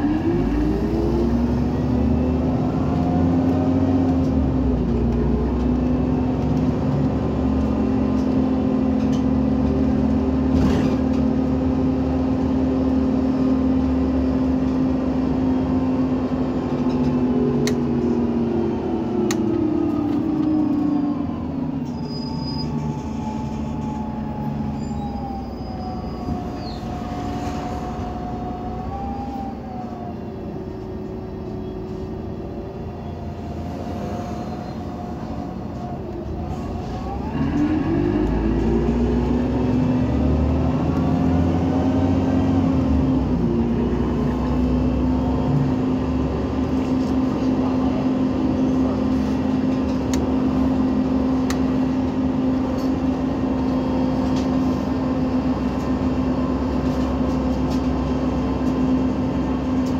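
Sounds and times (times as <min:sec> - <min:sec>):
bus engine whining: 0:00.0 - 0:59.9.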